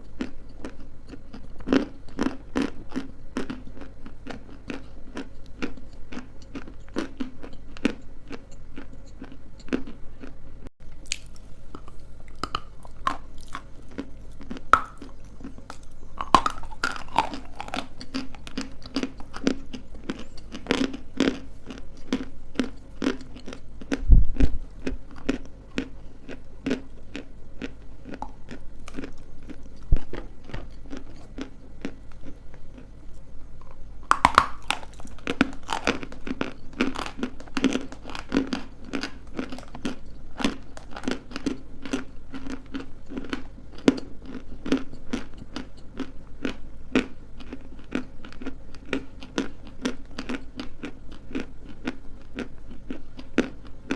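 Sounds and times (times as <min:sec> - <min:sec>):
biting and chewing crunches: 0:00.0 - 0:10.4, 0:11.0 - 0:53.9.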